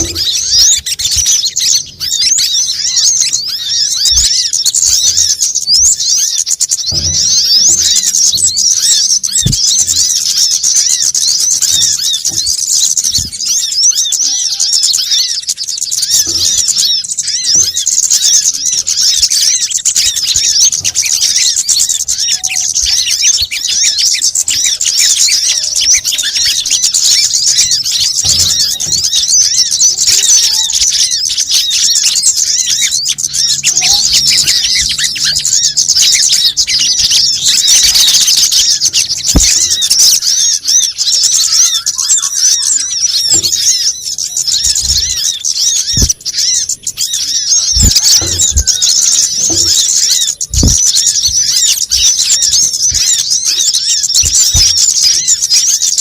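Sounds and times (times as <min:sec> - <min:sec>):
chorus of small birds chirping: 0:00.0 - 0:56.0.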